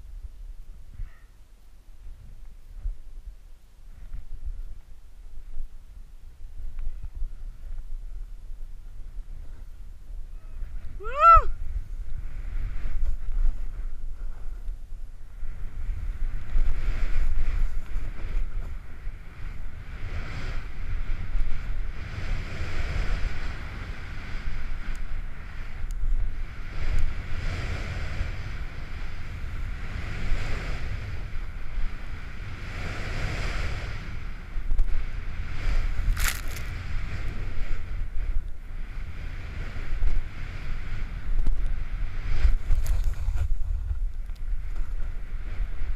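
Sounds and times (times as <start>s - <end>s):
wind on microphone: 0.0s - 45.9s
snowboard carving through snow: 2.1s - 45.9s.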